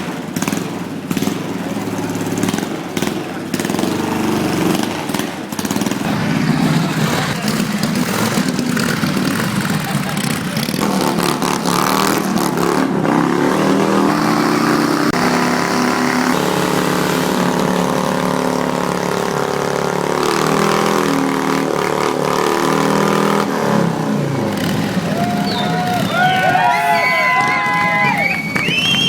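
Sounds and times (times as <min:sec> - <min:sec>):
motorcycle engine revving hard: 0:00.0 - 0:29.0.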